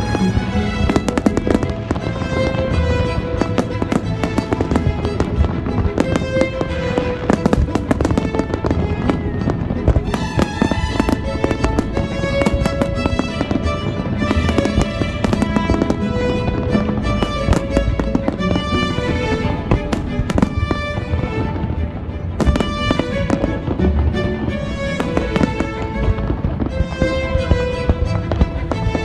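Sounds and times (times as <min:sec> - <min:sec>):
fireworks bangs and crackles: 0:00.0 - 0:29.0
music with long held notes: 0:00.0 - 0:29.0.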